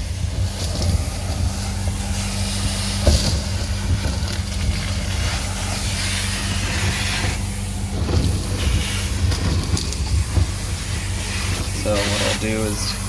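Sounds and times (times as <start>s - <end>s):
vacuum motor hum and suction hiss: 0.0s - 13.0s.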